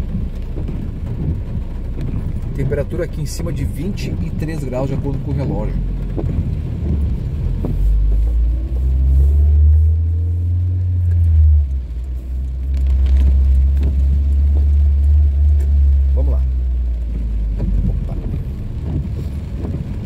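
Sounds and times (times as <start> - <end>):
car driving inside cabin: 0.0 - 20.0.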